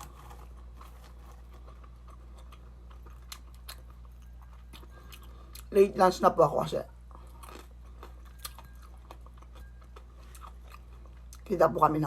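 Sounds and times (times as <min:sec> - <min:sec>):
person chewing food: 0:00.0 - 0:05.7, 0:06.9 - 0:11.5
steady low hum: 0:00.0 - 0:12.0.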